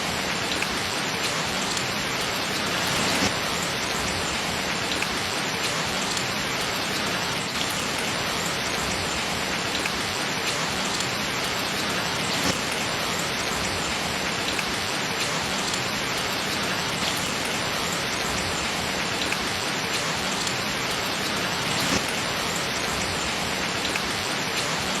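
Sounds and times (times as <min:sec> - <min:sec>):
raindrops ticking sharply: 0:00.0 - 0:25.0
steady rain falling: 0:00.0 - 0:25.0.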